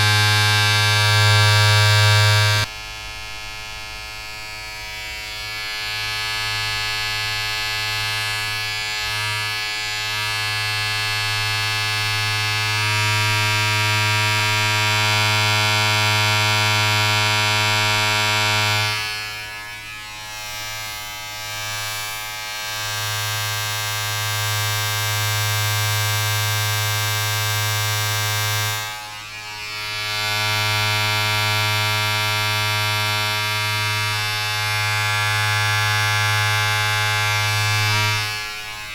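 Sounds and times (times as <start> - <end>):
small motor appliance buzzing: 0.0 - 2.7, 4.2 - 38.9.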